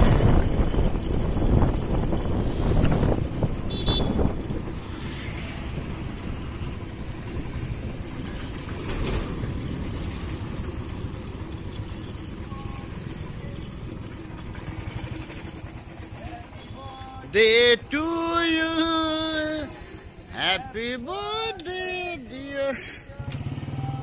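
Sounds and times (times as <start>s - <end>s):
motorcycle engine: 0.0s - 24.0s
road noise: 0.0s - 24.0s.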